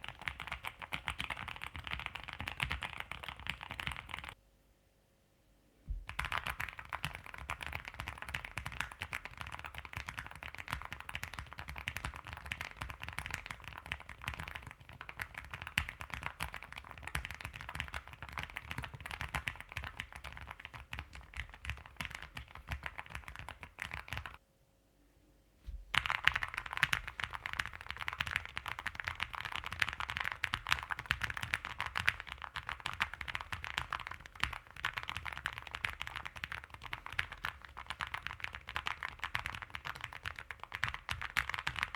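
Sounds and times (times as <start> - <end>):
mechanical keyboard typing: 0.0 - 4.4, 6.1 - 24.4, 26.0 - 41.9.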